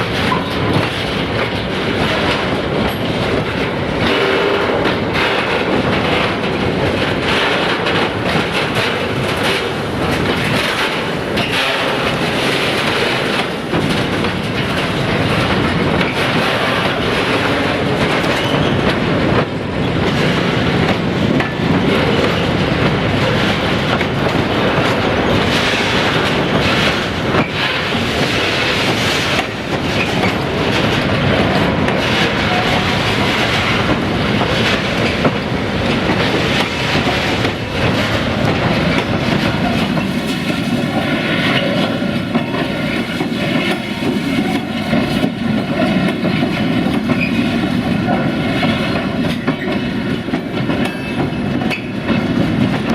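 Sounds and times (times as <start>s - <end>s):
train wheels clicking over rail joints: 0.0s - 52.9s.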